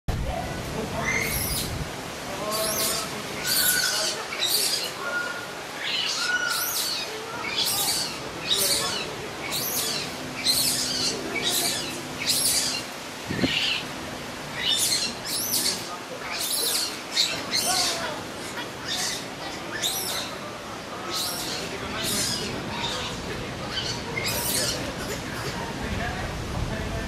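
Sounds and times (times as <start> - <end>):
infant monkey squealing: 1.0 - 1.7, 2.5 - 13.8, 14.5 - 20.4, 21.1 - 25.6.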